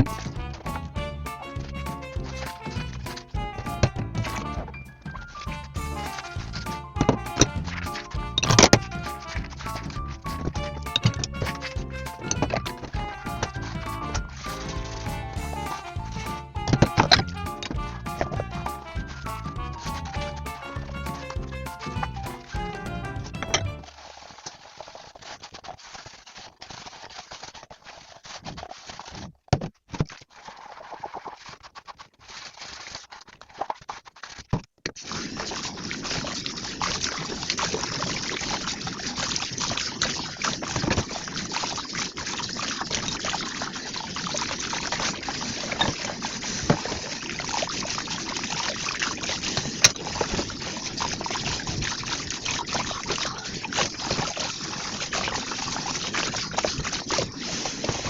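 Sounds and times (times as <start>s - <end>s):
water splashing over dishes: 0.0s - 29.3s, 29.9s - 58.0s.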